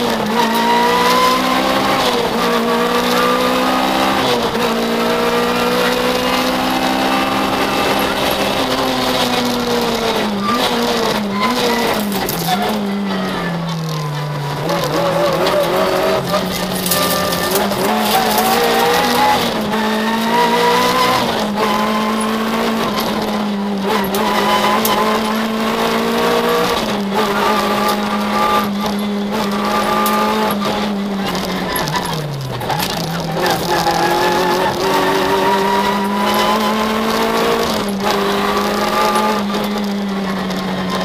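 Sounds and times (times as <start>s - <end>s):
car engine revving high: 0.0s - 41.0s.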